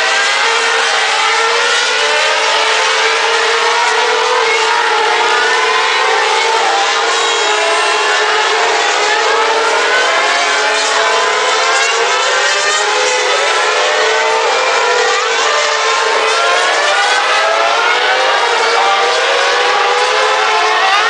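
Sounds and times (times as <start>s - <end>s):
racing car engines accelerating: 0.0s - 21.0s.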